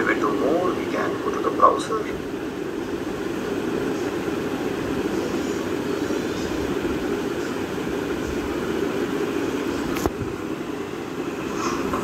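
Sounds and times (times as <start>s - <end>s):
low droning background noise: 0.0s - 12.0s.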